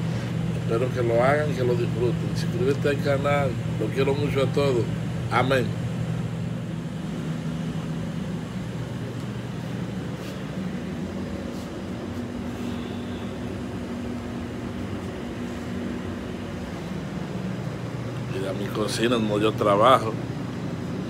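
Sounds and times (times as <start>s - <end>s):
low mechanical ventilation hum: 0.0s - 21.0s.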